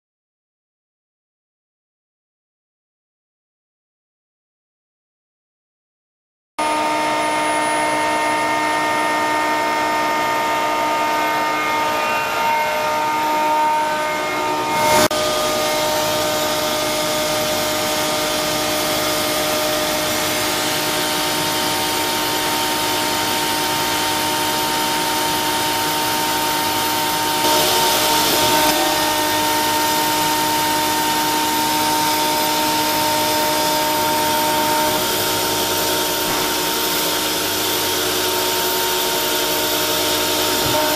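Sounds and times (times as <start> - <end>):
air compressor whining and hissing: 6.6 - 40.9.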